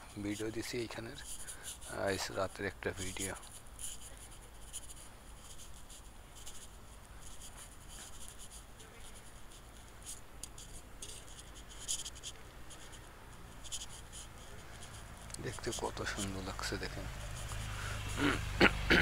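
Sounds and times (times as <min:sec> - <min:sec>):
scratchy high crackles: 0:02.9 - 0:18.6.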